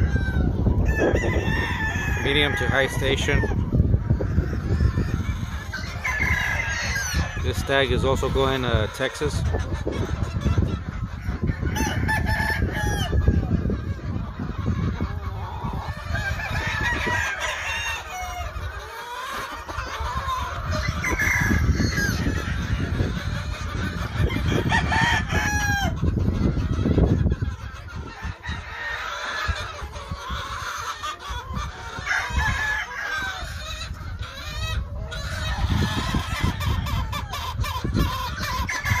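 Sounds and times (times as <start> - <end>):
chickens clucking: 0.0 - 39.0
roosters crowing: 0.0 - 39.0.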